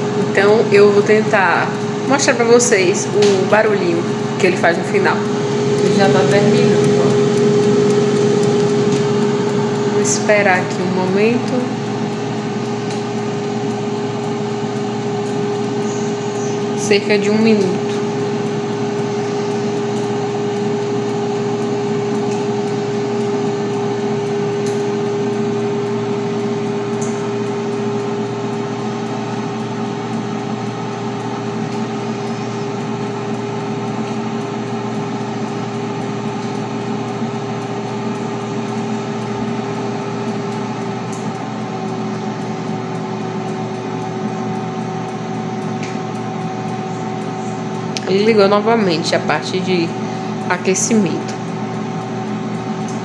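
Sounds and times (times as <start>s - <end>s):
air fryer fan humming: 0.0s - 53.0s.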